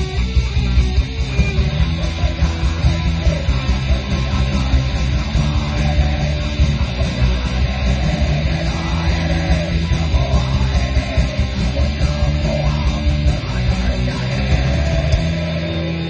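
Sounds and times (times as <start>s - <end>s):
heavy rock music with guitars: 0.0s - 16.0s.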